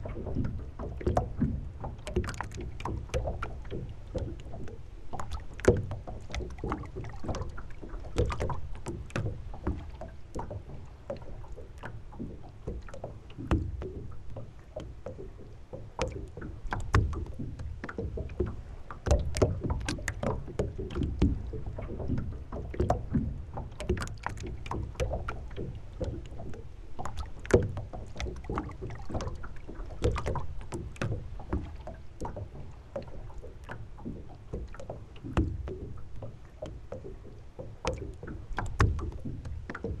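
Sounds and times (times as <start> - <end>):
small knocks and clicks: 0.0 - 40.0
water lapping against boat hull: 0.0 - 40.0.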